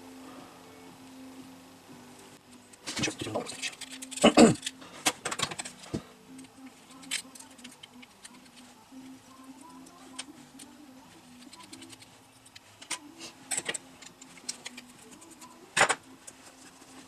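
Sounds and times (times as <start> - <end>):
faint steady hum: 0.0 - 17.0
small parts and tools clicking: 2.7 - 17.0.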